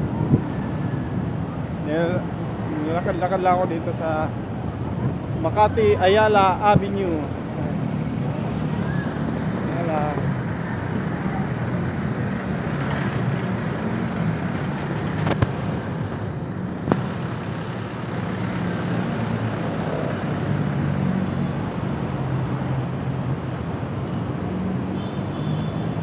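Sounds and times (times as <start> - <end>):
passing traffic: 0.0 - 26.0.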